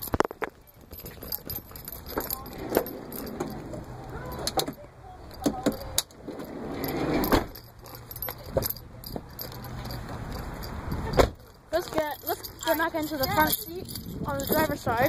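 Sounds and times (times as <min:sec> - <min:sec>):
car keys jangling: 0:00.0 - 0:15.0.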